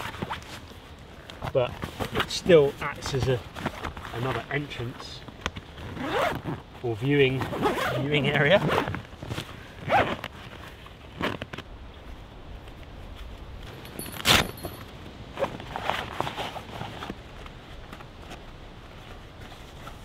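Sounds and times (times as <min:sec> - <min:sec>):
heavy canvas rustling: 0:00.0 - 0:20.0.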